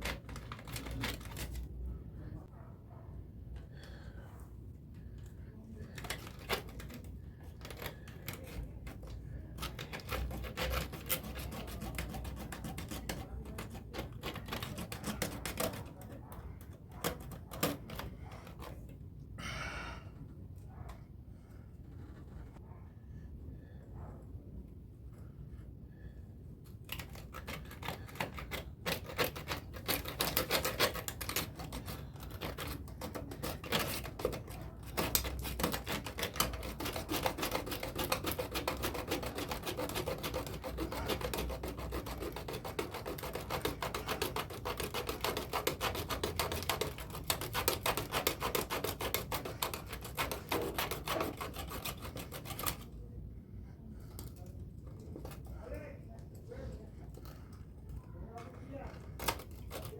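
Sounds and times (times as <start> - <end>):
hand tool rasping on plastic pipe: 0.0 - 1.8, 5.8 - 19.0, 26.0 - 55.6, 56.4 - 59.9.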